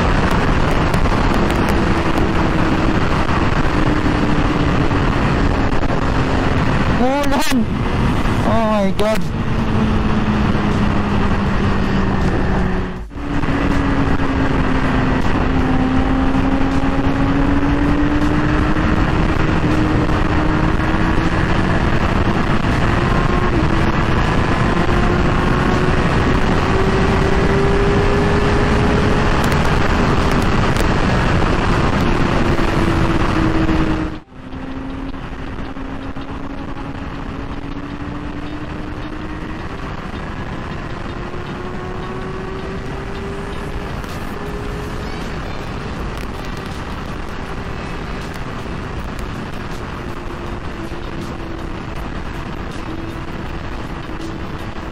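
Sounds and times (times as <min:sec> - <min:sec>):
motorcycle engine running hard: 0:00.0 - 0:54.9
wind rush: 0:00.0 - 0:54.9.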